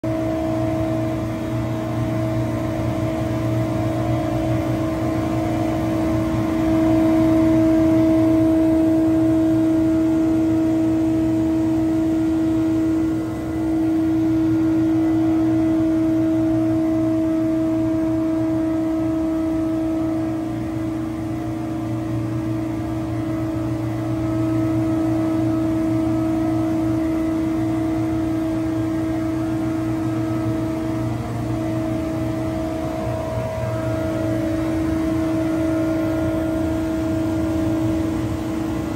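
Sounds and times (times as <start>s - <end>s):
machinery hum: 0.0s - 38.9s.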